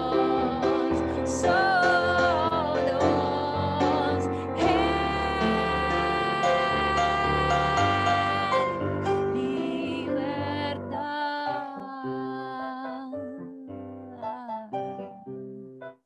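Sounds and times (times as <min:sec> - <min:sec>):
woman singing: 0:00.0 - 0:15.1
slow piano passage: 0:00.0 - 0:16.0.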